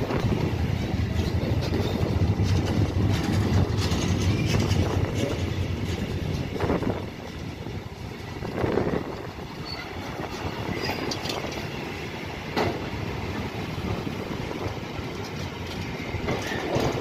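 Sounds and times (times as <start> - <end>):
clacking over rail joints: 0.0 - 17.0
freight train wheels rumbling: 0.0 - 17.0.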